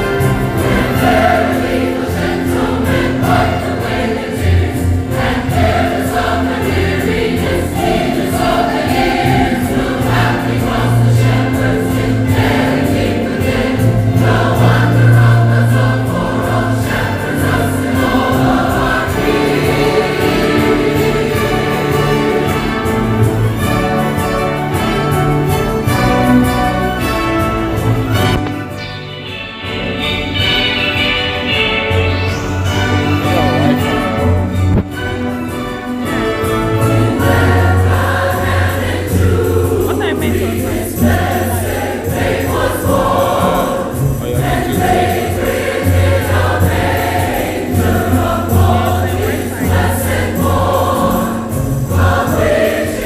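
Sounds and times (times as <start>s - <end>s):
choir singing: 0.0s - 53.0s
orchestral accompaniment: 0.0s - 53.0s.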